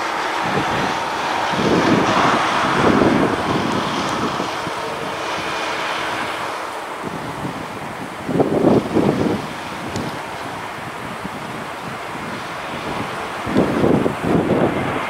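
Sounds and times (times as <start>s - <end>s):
distant jet engine hum: 0.0s - 15.0s
wind buffeting microphone: 0.0s - 15.0s.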